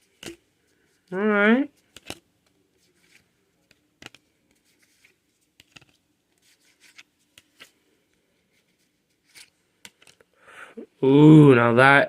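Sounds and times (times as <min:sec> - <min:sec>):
trading cards rustling: 0:00.0 - 0:10.3.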